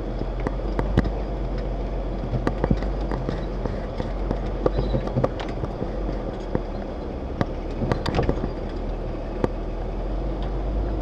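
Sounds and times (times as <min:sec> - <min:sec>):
low engine rumble: 0:00.0 - 0:11.0
sharp clicks and knocks: 0:00.1 - 0:09.6.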